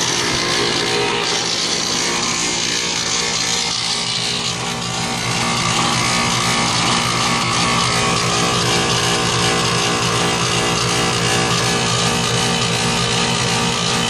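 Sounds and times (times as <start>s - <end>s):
air conditioning compressor humming: 0.0s - 14.0s.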